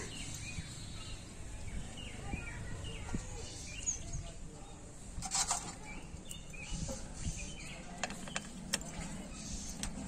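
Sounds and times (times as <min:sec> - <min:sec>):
background noise: 0:00.0 - 0:10.0.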